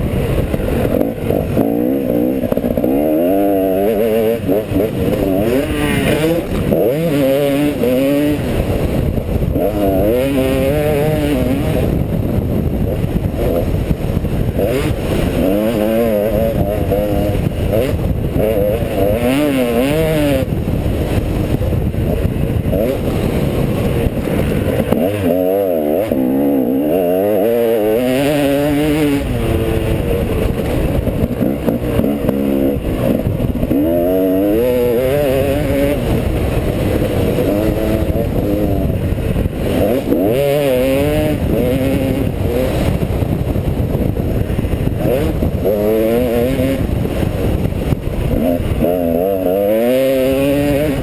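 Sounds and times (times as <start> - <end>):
motocross bike engine revving: 0.0 - 51.0
wind on microphone: 0.0 - 51.0.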